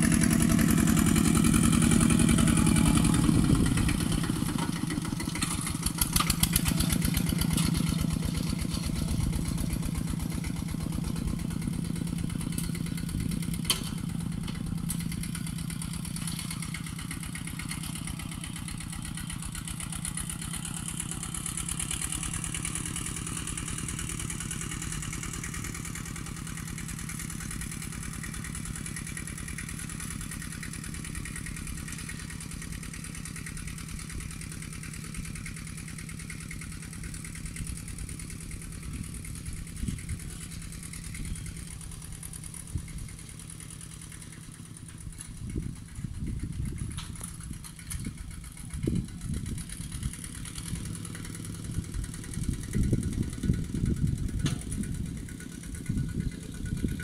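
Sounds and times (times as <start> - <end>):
tractor diesel engine chugging: 0.0 - 57.0.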